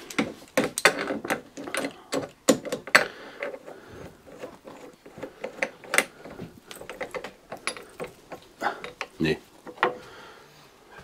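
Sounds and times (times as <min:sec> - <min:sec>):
metal tools clicking and knocking: 0:00.0 - 0:10.0.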